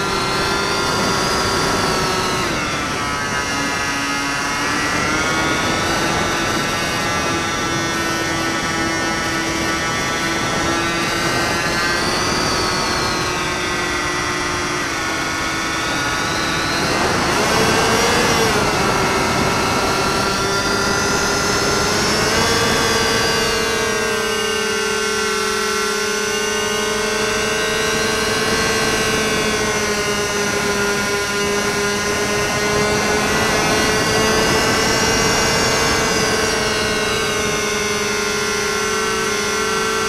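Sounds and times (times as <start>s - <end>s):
electric motor and propeller whining: 0.0s - 40.0s
wind rushing over microphone: 0.0s - 40.0s.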